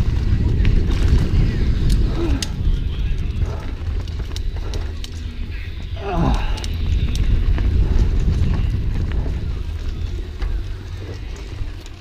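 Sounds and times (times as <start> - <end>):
mountain bike rattling on trail: 0.0 - 12.0
wind buffeting microphone: 0.0 - 12.0.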